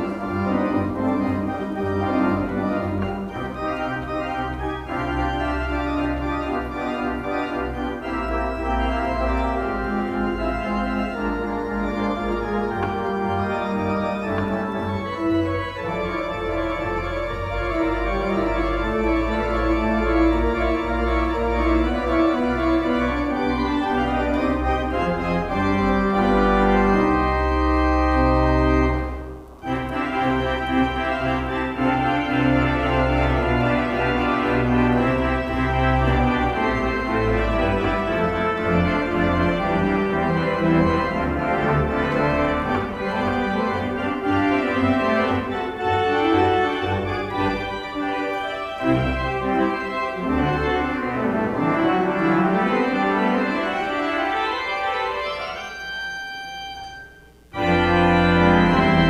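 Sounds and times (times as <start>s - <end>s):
pipe organ playing chords: 0.0s - 59.0s.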